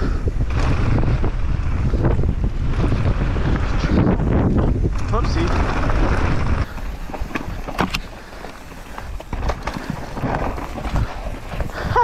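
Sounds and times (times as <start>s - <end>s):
bike clacking and rattling: 0.0s - 12.0s
bike tyres on dirt: 0.0s - 12.0s
wind on microphone: 0.0s - 12.0s.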